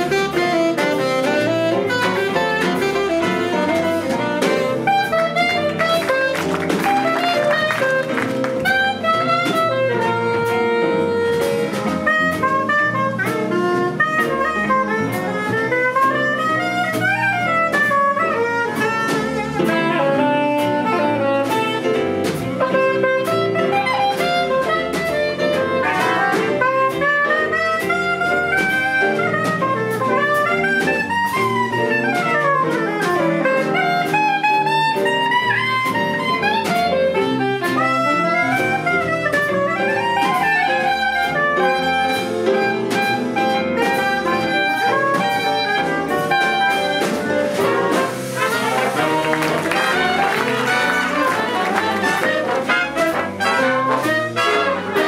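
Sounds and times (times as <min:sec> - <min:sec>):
big band jazz: 0:00.0 - 0:55.0
soprano saxophone runs: 0:00.0 - 0:55.0.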